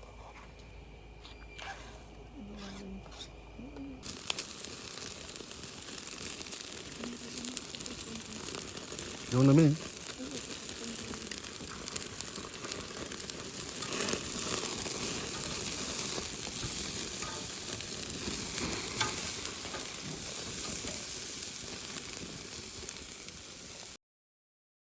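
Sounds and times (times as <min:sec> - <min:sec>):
steak sizzling over fire: 0:04.0 - 0:24.0.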